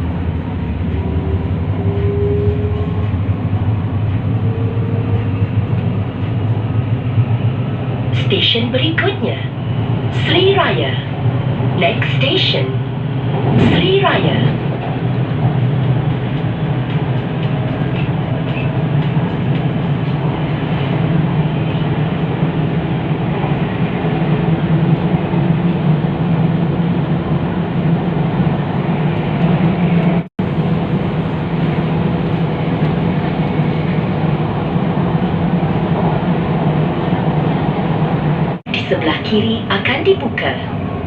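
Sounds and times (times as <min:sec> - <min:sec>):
metro train rumbling: 0:00.0 - 0:41.0.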